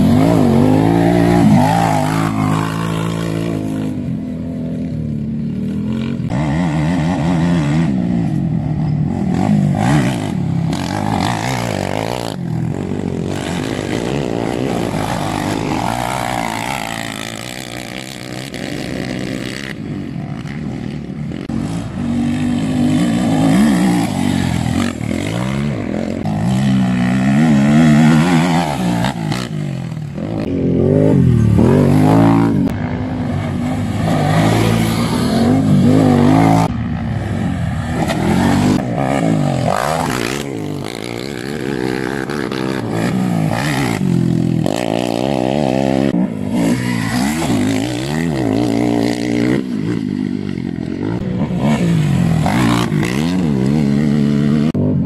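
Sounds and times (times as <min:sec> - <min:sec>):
quad bike engines revving: 0:00.0 - 0:55.0.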